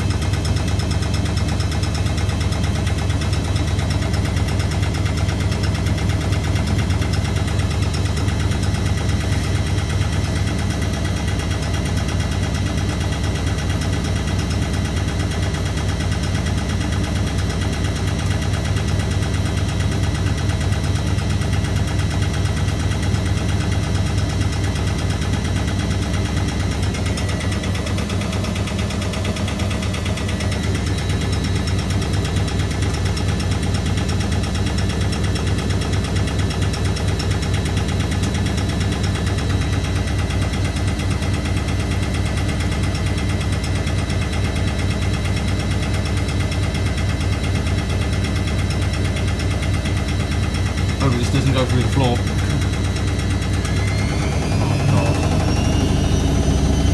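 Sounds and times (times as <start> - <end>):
washing machine spinning: 0.0 - 56.9.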